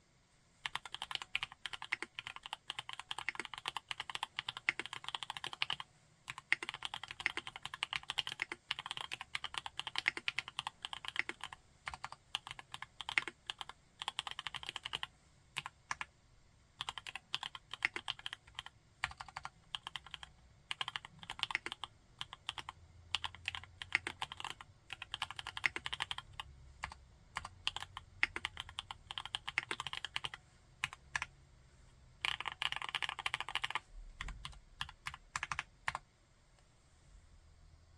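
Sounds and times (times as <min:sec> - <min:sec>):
mechanical keyboard typing: 0:00.6 - 0:16.1, 0:16.8 - 0:31.3, 0:32.2 - 0:36.0.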